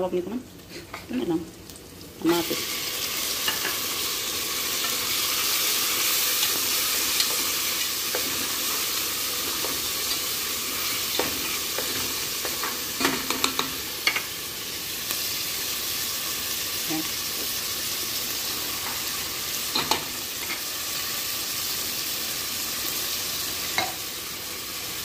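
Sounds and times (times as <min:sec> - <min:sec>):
vegetables sizzling in hot oil: 0:00.1 - 0:25.0.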